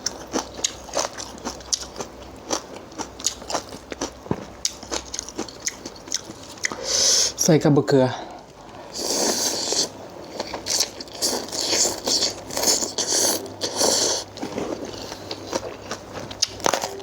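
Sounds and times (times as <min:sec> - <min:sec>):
person chewing crunchy food: 0:00.0 - 0:07.4, 0:08.4 - 0:17.0.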